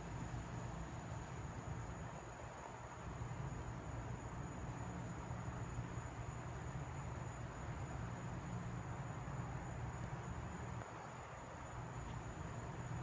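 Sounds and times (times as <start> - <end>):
insects trilling: 0.0 - 13.0
rapid insect pulses: 0.0 - 13.0.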